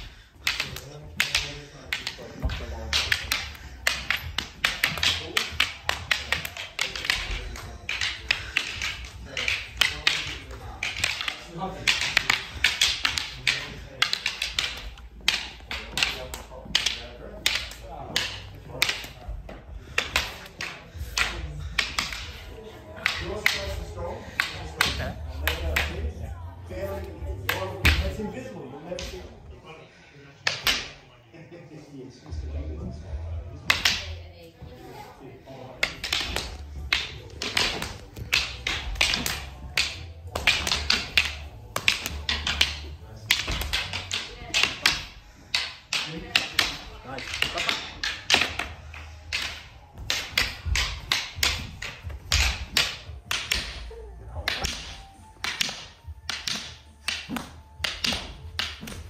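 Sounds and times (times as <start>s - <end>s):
wooden sticks clacking: 0.0s - 26.2s, 26.8s - 28.3s, 28.9s - 29.4s, 30.4s - 31.0s, 33.6s - 34.4s, 35.4s - 59.0s.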